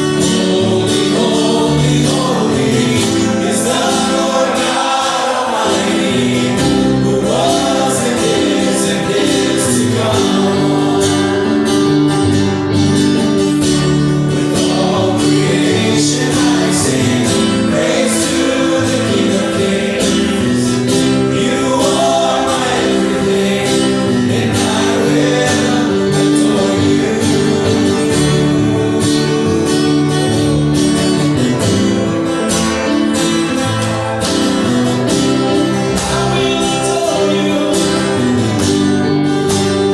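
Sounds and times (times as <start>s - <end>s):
gospel song sung to guitar: 0.0s - 39.9s.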